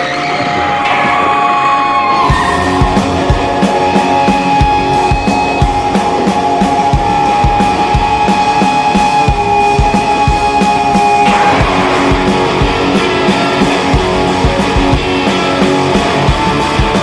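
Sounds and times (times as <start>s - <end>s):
guitar rock music over a beat: 0.8s - 17.0s.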